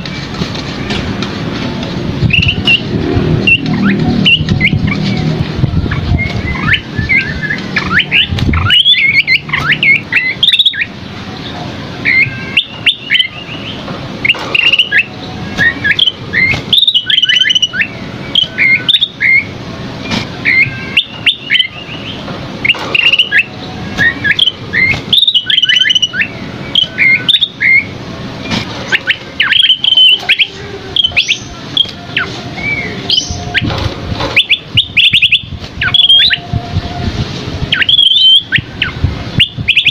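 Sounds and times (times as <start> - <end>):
bird singing whistles and chirps: 2.2 - 5.2, 5.9 - 10.9, 12.0 - 19.5, 20.1 - 27.9, 28.5 - 33.7, 34.4 - 36.5, 37.7 - 39.9.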